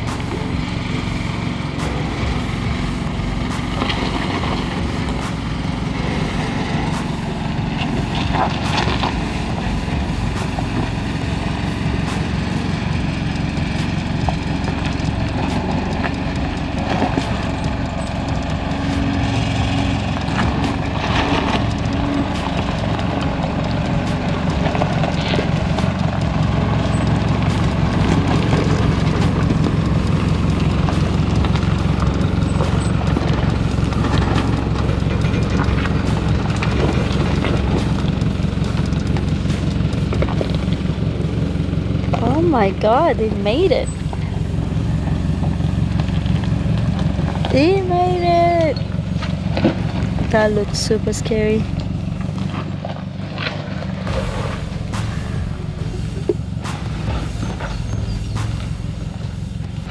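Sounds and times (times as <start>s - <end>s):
engine running at low revs: 0.0s - 59.9s
tyres crunching over rocks: 0.0s - 59.9s.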